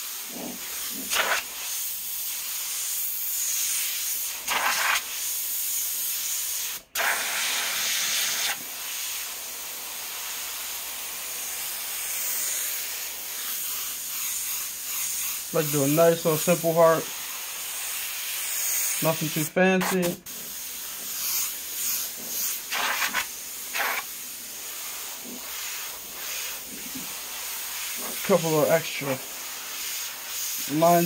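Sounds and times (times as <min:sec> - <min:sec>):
airbrush hissing: 0:00.0 - 0:31.0.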